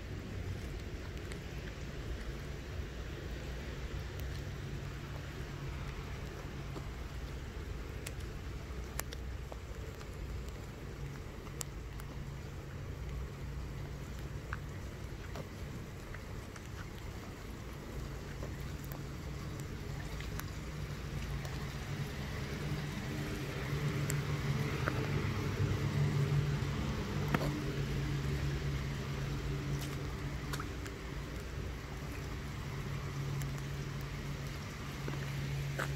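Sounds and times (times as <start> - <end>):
low engine hum: 0.0 - 35.9
faint clicks: 0.5 - 2.4, 3.6 - 35.9.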